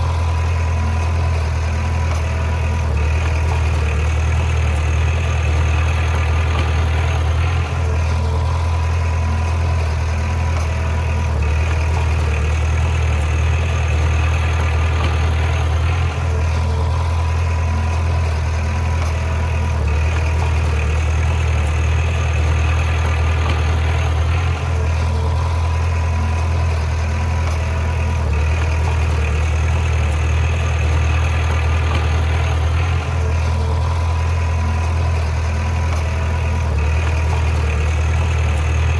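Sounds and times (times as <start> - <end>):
bulldozer diesel engine humming: 0.0 - 38.9.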